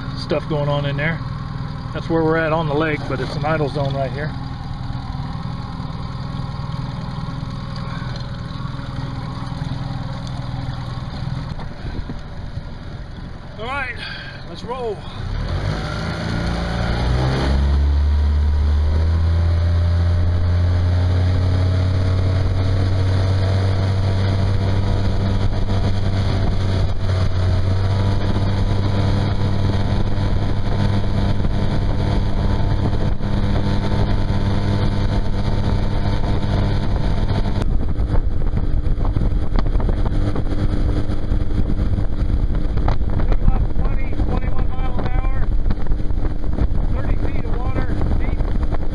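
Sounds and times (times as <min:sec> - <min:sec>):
outboard motor running: 0:00.0 - 0:48.9.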